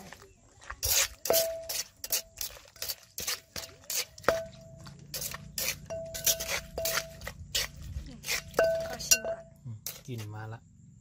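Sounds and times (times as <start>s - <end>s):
pestle scraping in mortar: 0.0s - 10.4s.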